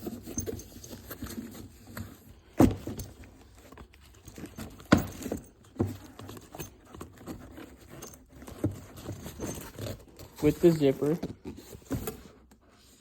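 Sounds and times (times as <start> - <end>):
tool bag rustling and rattling: 0.0 - 13.0.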